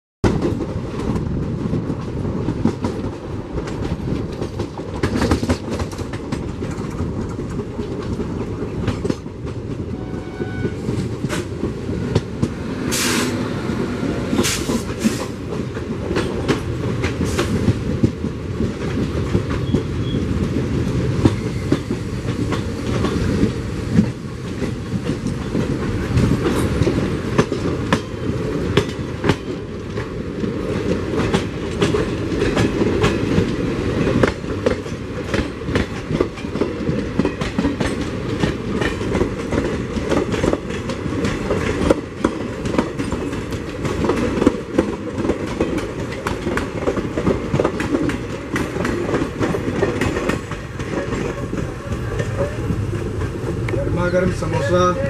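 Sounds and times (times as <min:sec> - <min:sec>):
clickety-clack over rail joints: 0:00.2 - 0:55.0
train wheels rumbling on rail: 0:00.2 - 0:55.0.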